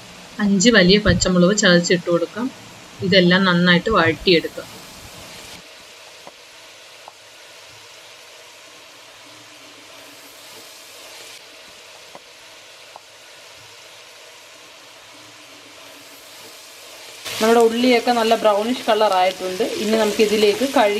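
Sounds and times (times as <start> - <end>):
onions sizzling in hot oil: 0.0 - 20.9.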